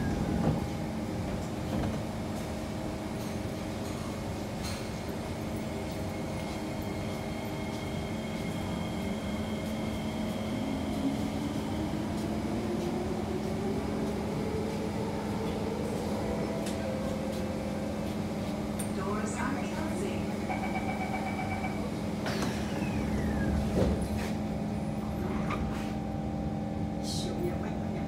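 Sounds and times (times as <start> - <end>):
train running hum: 0.0 - 28.0.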